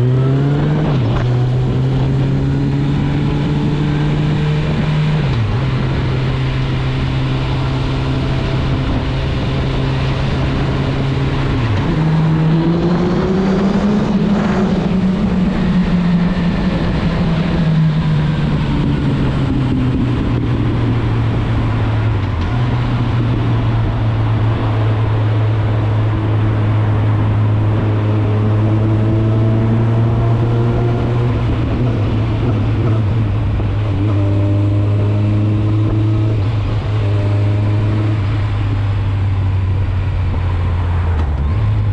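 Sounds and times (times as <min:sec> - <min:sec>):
wind noise: 0:00.0 - 0:41.9.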